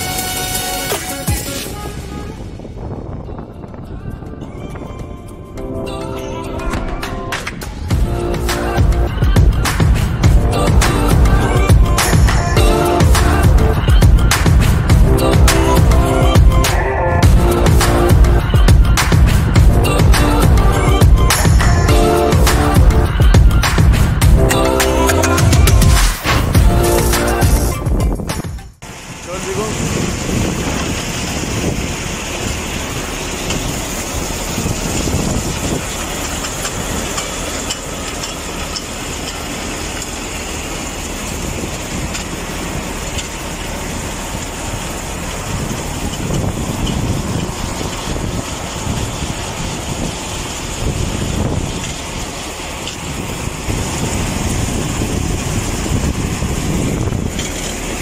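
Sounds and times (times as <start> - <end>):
conveyor machinery drone: 0.0 - 27.7, 28.8 - 58.0
uneven low rumbles: 5.0 - 58.0.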